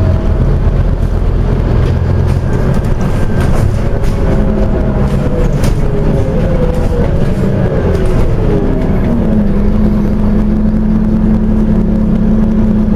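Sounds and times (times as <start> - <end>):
bus engine humming: 0.0 - 12.9.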